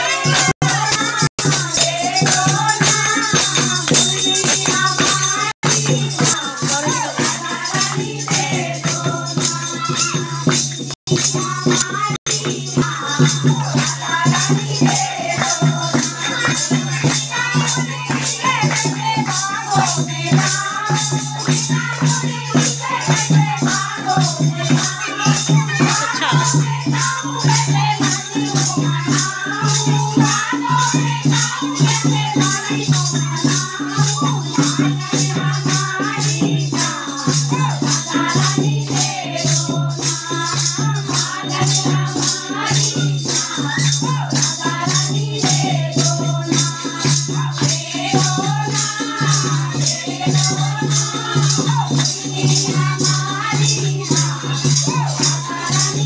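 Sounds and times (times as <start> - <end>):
jingling percussion beat: 0.0 - 56.0
rhythmic hand-clapping: 0.0 - 56.0
women singing devotional song: 0.0 - 56.0.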